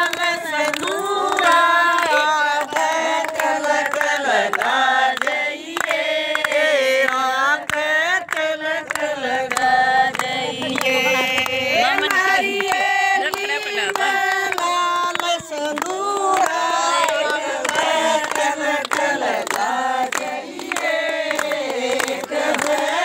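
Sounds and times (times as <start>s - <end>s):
hands clapping: 0.0s - 23.0s
women singing in unison: 0.0s - 23.0s.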